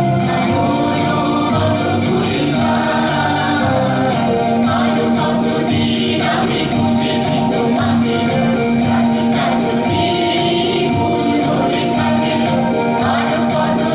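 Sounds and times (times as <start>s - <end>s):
person singing: 0.0s - 13.9s
steady percussion beat: 0.0s - 13.9s.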